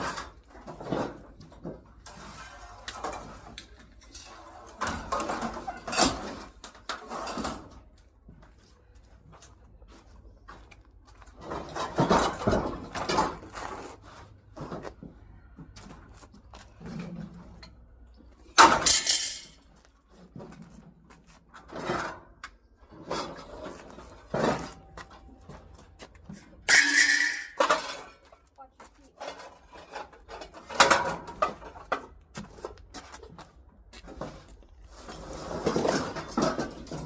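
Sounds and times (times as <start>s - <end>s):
scrap clattering and knocking: 0.0s - 8.4s, 11.2s - 37.0s.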